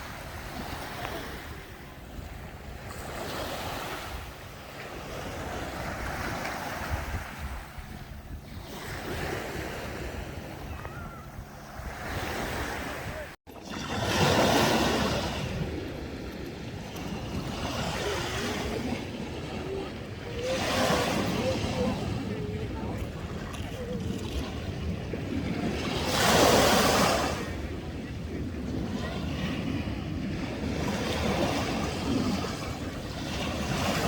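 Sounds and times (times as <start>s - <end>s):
sea waves washing ashore: 0.0s - 34.0s
wind on microphone: 0.0s - 34.0s.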